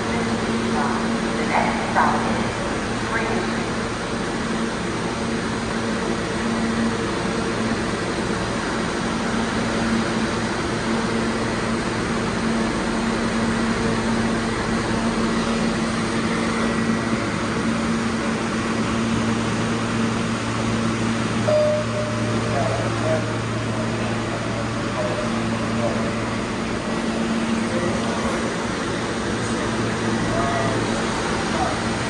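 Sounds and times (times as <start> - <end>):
subway train equipment humming: 0.0 - 32.0.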